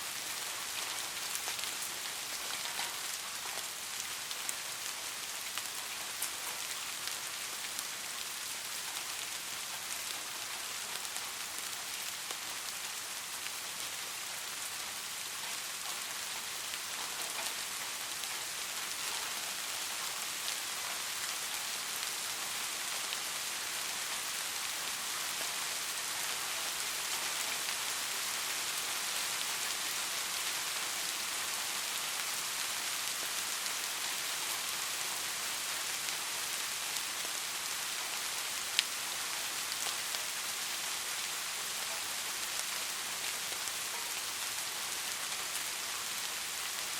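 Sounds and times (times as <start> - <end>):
steady rain on a street: 0.0 - 46.9.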